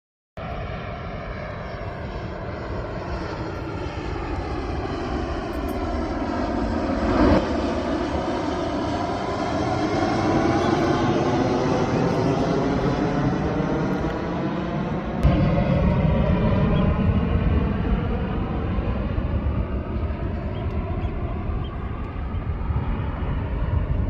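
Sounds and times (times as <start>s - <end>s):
airplane flying overhead: 0.4s - 24.0s.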